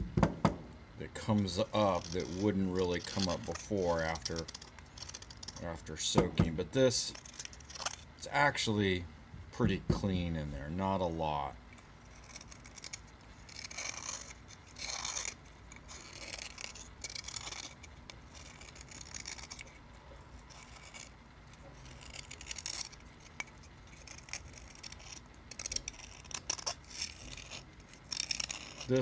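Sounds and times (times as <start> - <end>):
knife scraping pipe bowl: 1.2 - 6.1, 6.8 - 8.3, 11.8 - 29.0.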